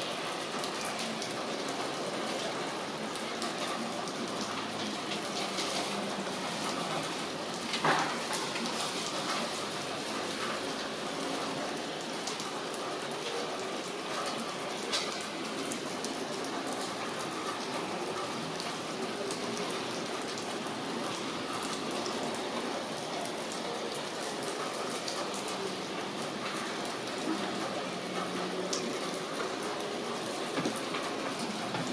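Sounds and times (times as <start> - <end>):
rain pattering on surfaces: 0.0 - 31.9.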